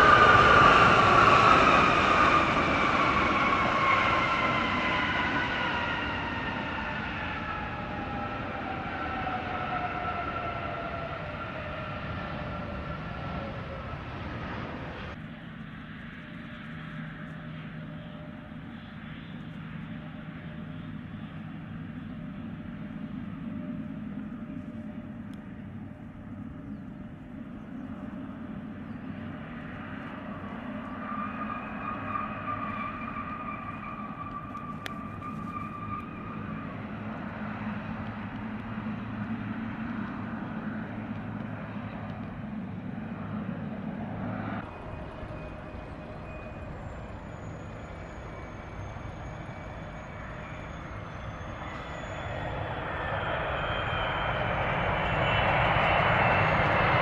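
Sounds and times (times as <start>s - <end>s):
jet engines running: 0.0s - 57.0s
thin high engine whine: 0.0s - 57.0s.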